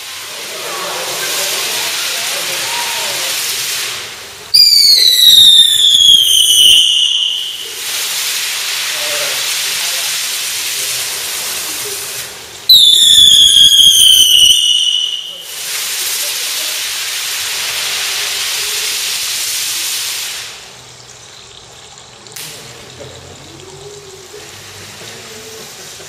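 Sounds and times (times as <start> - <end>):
falling pyrotechnic whistles: 0.0 - 21.0
firework fountains hissing: 0.0 - 26.0.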